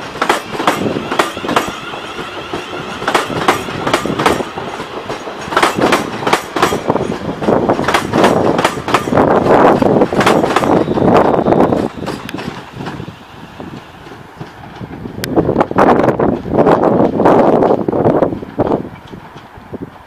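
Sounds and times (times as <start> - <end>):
train rolling rumble: 0.0 - 20.0
train wheels clicking over joints: 0.0 - 20.0.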